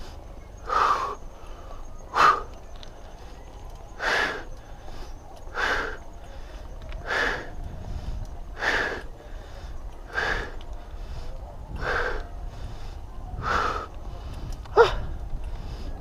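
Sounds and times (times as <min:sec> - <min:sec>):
person breathing hard: 0:00.0 - 0:02.6, 0:04.0 - 0:16.0.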